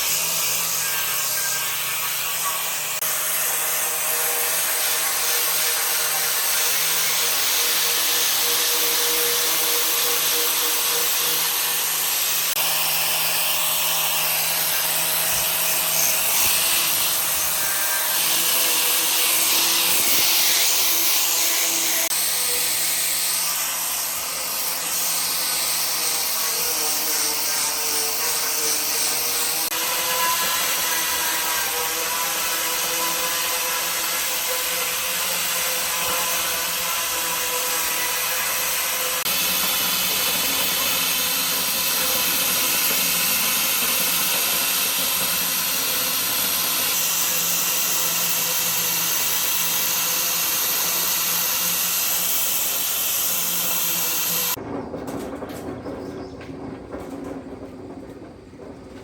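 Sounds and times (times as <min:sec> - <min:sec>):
power tool grinding metal: 0:00.0 - 0:54.6.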